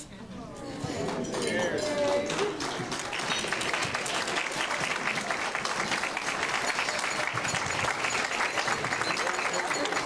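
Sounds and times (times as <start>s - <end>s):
crowd applauding: 1.4s - 10.0s.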